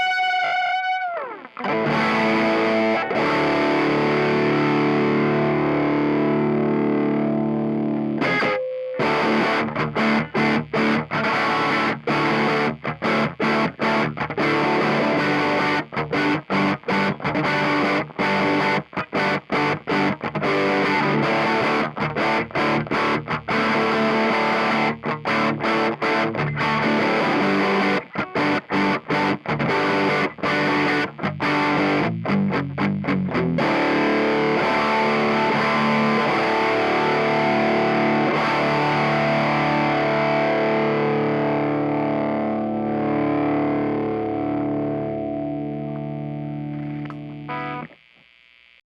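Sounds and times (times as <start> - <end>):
distorted electric guitar: 0.0 - 48.8.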